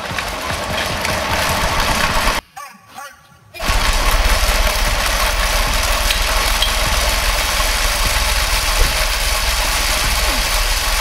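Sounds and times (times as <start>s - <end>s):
giant spinner whirling rumble: 0.6s - 2.4s, 3.6s - 11.0s.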